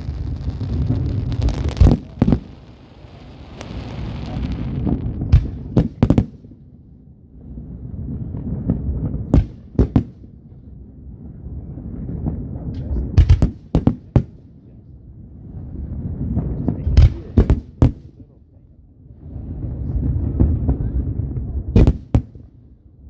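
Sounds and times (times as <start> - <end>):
fireworks bangs: 0.0 - 6.8, 7.8 - 14.6, 16.0 - 18.3, 19.4 - 22.6
fireworks rumble and hiss: 0.0 - 23.0.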